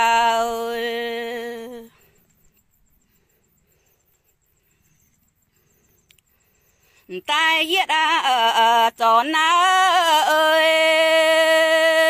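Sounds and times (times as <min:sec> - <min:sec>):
faint high pulsing hiss: 0:00.0 - 0:12.0.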